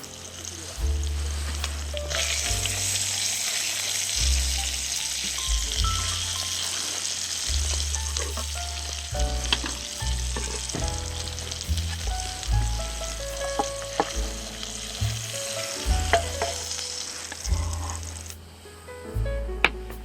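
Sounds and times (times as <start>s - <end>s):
food sizzling: 0.0s - 18.6s
background music: 0.0s - 20.0s.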